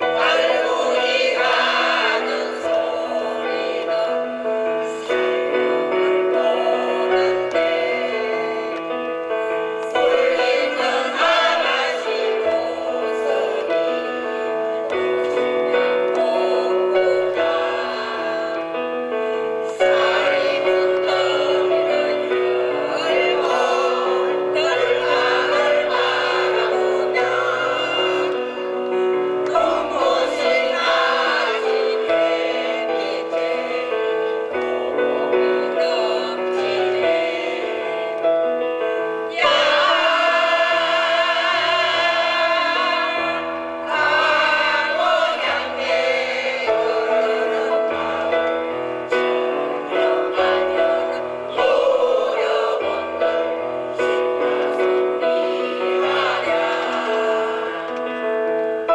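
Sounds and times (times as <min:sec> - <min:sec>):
mixed choir singing: 0:00.0 - 0:58.9.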